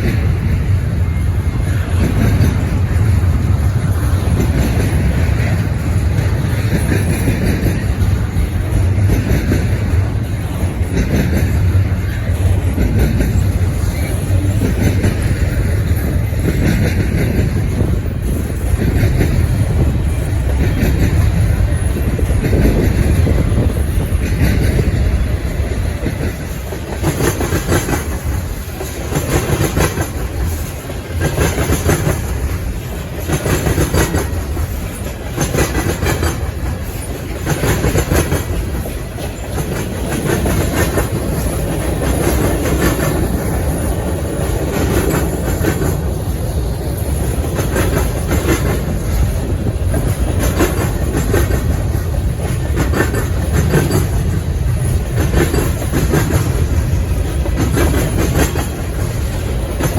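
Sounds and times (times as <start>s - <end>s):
freight train wheels rumbling: 0.0s - 59.9s
wheels clacking over rail joints: 0.0s - 59.9s.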